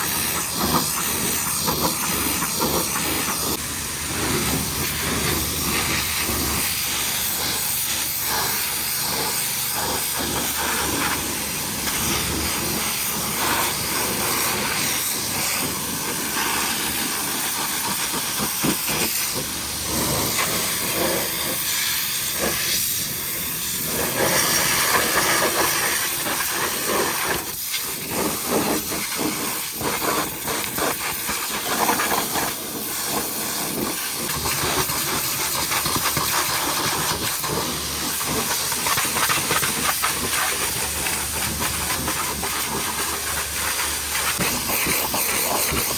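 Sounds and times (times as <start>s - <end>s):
pressure washer spraying water: 0.0s - 45.9s.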